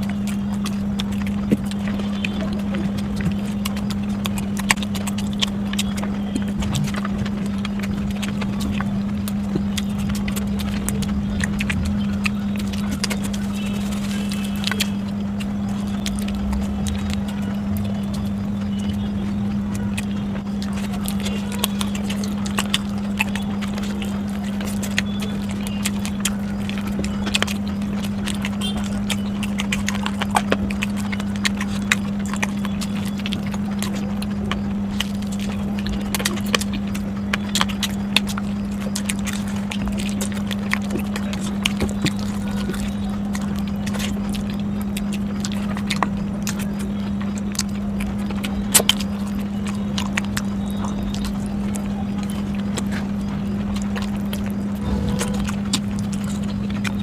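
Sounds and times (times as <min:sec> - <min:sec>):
chewing and food handling clicks: 0:00.0 - 0:57.0
steady low hum: 0:00.0 - 0:57.0.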